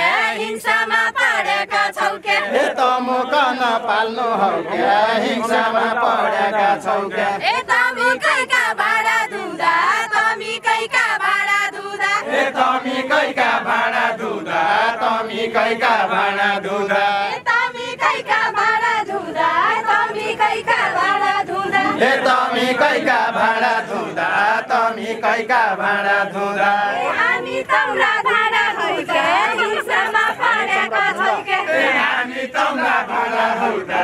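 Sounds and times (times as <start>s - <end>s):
group singing folk song in unison: 0.0s - 34.0s.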